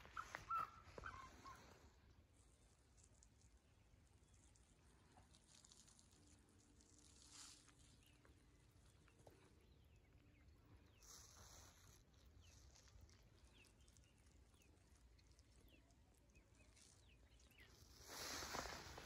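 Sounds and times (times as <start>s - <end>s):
soft rustle: 0.0s - 19.0s.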